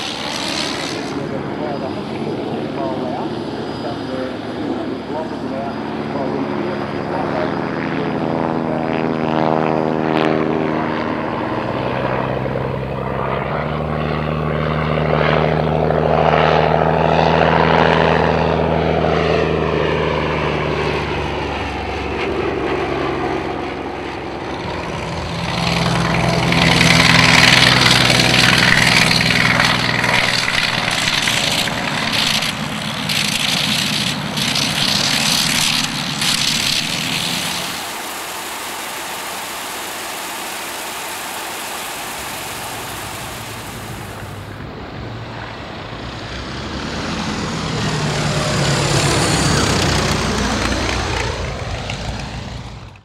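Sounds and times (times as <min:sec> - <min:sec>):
biplane engines flying by: 0:00.0 - 0:53.0.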